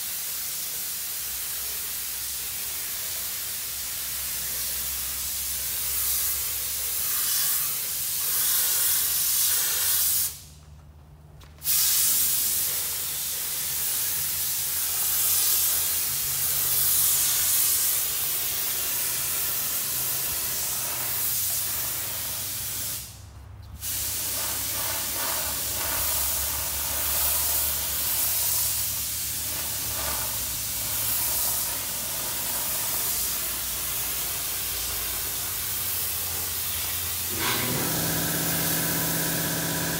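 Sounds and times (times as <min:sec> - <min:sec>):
spray gun hissing: 0:00.0 - 0:10.5, 0:11.6 - 0:23.2, 0:23.8 - 0:39.9.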